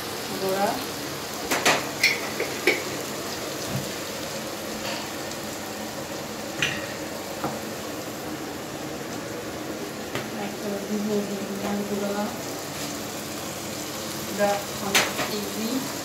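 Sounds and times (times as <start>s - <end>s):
masala sizzling in a pan: 0.0s - 16.0s.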